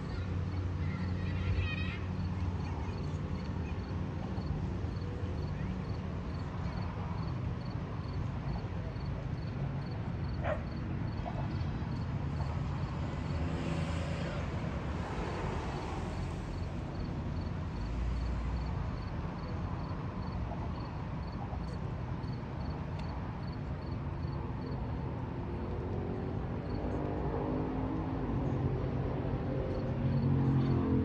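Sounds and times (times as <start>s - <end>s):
low rumble of traffic: 0.0s - 31.0s.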